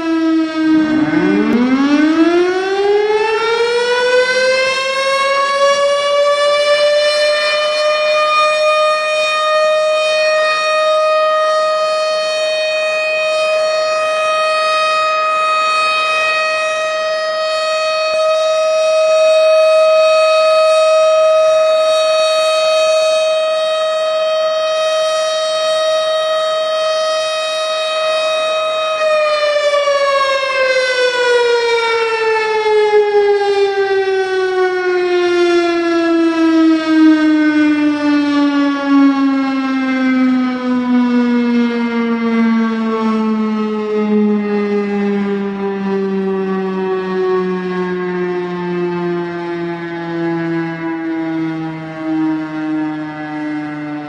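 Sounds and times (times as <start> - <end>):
siren wailing: 0.0 - 54.0.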